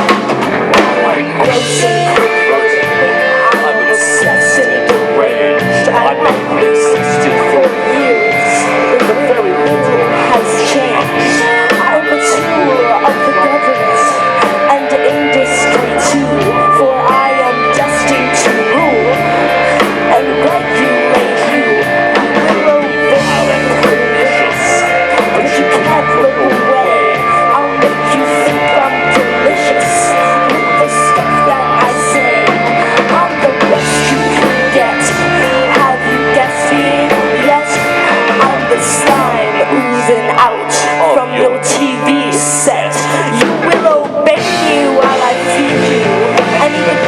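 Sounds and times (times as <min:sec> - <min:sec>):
bass guitar: 0:00.0 - 0:47.0
drum kit: 0:00.0 - 0:47.0
electric guitar: 0:00.0 - 0:47.0.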